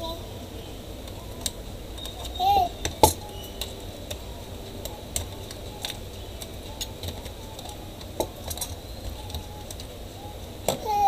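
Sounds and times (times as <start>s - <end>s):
hands tapping laptop parts: 1.1s - 10.0s.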